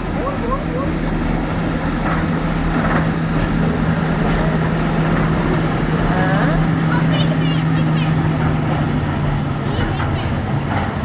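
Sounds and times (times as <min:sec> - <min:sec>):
train engine droning: 0:00.0 - 0:11.0.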